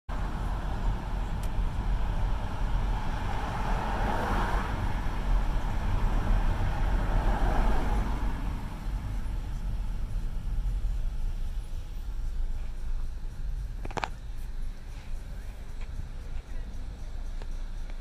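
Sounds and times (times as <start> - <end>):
cars driving past: 0.1 - 18.0.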